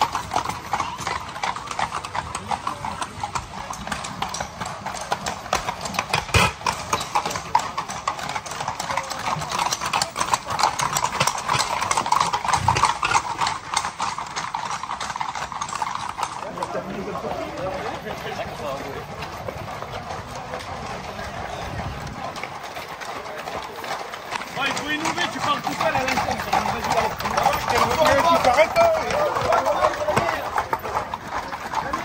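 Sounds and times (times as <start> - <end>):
horse hooves clip-clopping on road: 0.0 - 32.0.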